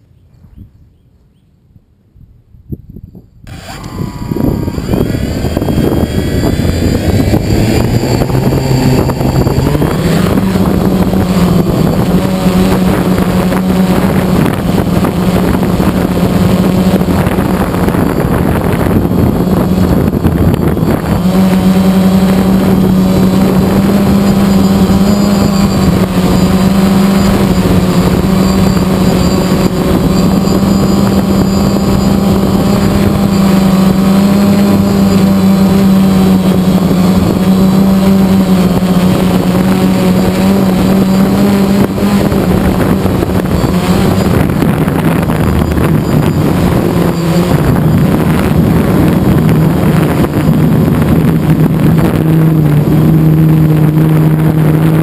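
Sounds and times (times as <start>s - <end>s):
rc aircraft motors buzzing: 3.4s - 55.0s.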